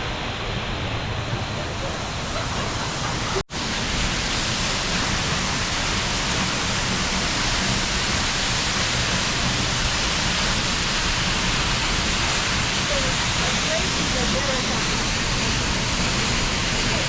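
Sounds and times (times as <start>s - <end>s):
waterfall roar: 0.0s - 17.0s.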